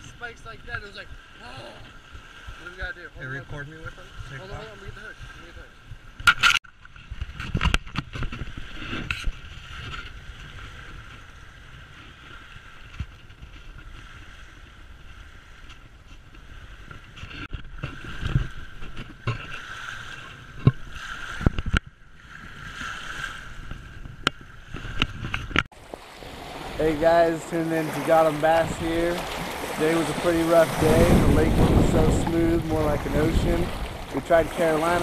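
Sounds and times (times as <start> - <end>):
lake water washing against bank: 0.0 - 6.2, 7.0 - 35.0
wind on microphone: 7.0 - 35.0.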